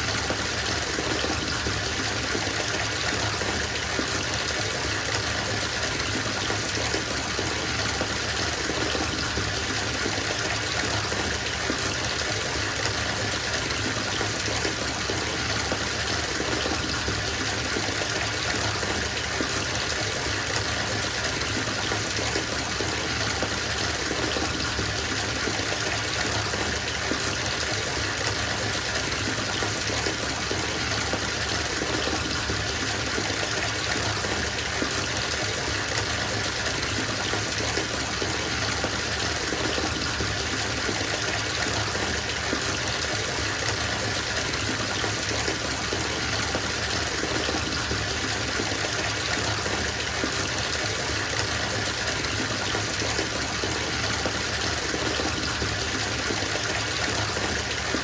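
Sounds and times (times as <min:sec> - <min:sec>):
tap water gushing into bathtub: 0:00.0 - 0:58.0.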